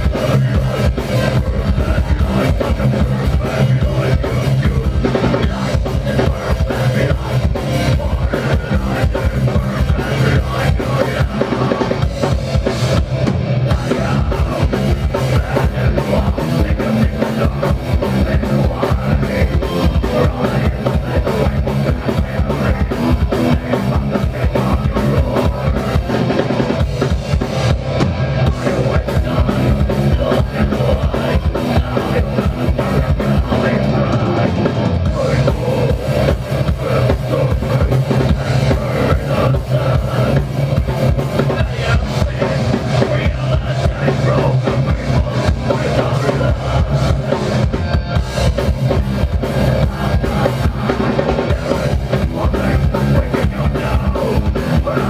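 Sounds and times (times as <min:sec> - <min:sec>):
fast drum kit: 0:00.0 - 0:55.0
metal band playing: 0:00.0 - 0:55.0.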